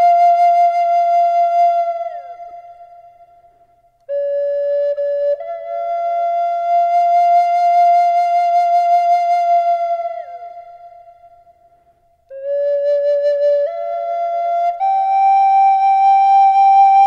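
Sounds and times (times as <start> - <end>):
solo flute: 0.0 - 17.0.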